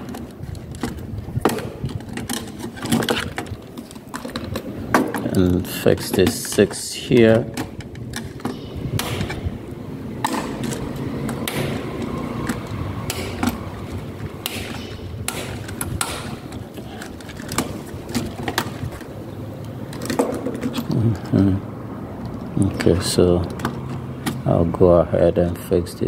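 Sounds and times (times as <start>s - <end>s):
circuit breakers clicking: 0.0s - 21.5s.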